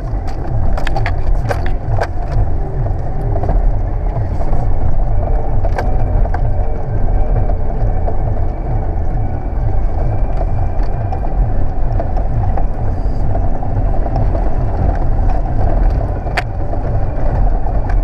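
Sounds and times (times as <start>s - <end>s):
four-wheel drive engine rumbling: 0.0s - 18.0s
knocks and rattles: 0.0s - 18.0s.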